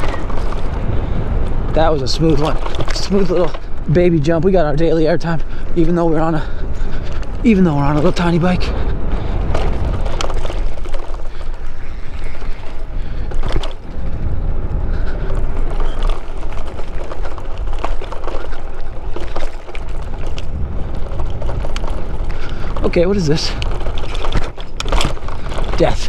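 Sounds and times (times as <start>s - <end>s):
bike knocks and rattles: 0.0s - 26.0s
tyres rolling on dirt: 0.0s - 26.0s
wind on microphone: 0.0s - 26.0s.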